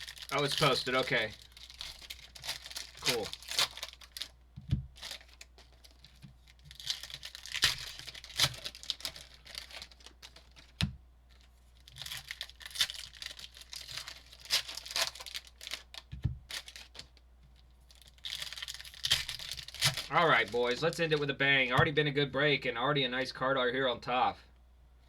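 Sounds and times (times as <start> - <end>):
foil wrappers tearing and crinkling: 0.0 - 17.2, 17.9 - 21.3.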